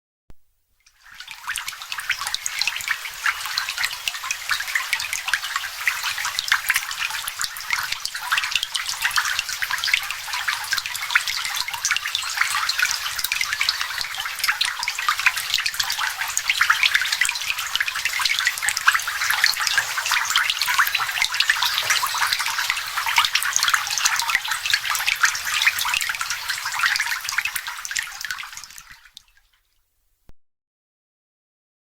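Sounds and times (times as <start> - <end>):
rain falling on water: 0.9 - 29.3.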